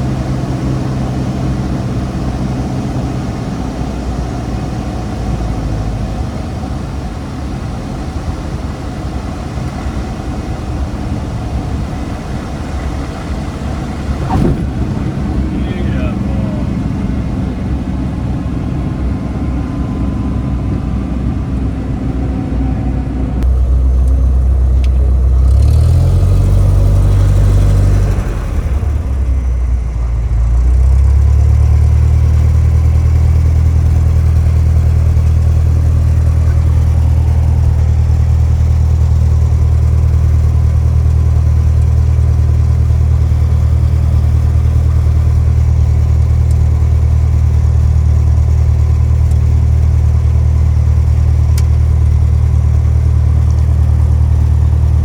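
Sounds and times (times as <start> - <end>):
small airplane engine droning: 0.0 - 55.0.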